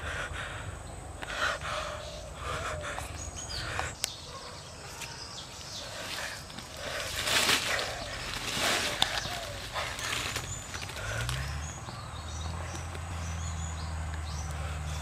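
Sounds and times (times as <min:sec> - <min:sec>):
man breathing hard: 0:00.0 - 0:04.3, 0:05.5 - 0:13.6, 0:14.2 - 0:15.0
faint outdoor ambience: 0:00.0 - 0:15.0.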